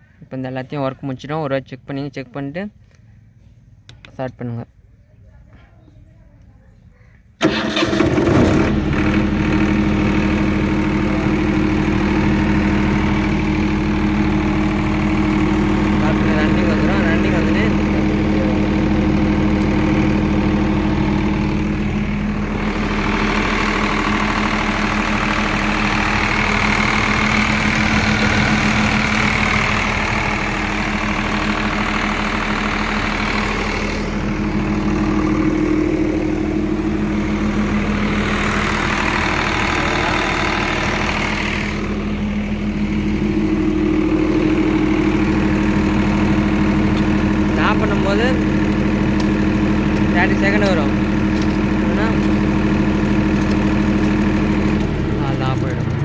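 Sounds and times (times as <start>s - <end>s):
diesel generator running: 0.0s - 56.0s.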